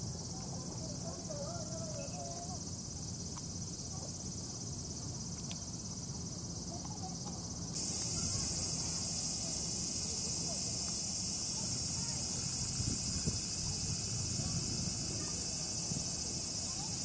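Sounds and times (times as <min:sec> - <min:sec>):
cicada chorus drone: 0:00.0 - 0:17.0.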